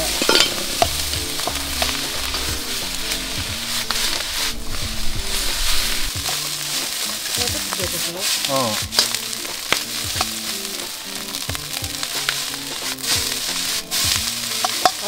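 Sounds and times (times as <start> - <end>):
metal ladle scraping a pan: 0.0 - 15.0
rice sizzling in a wok: 0.0 - 15.0.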